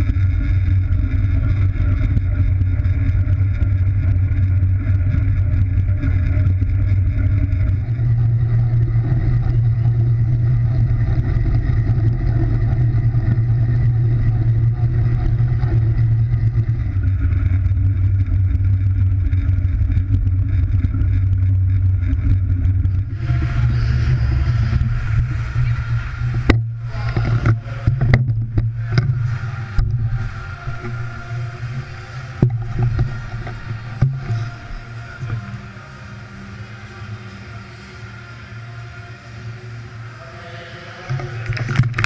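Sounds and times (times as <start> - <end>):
bike wind and wheel rumble: 0.0 - 42.0.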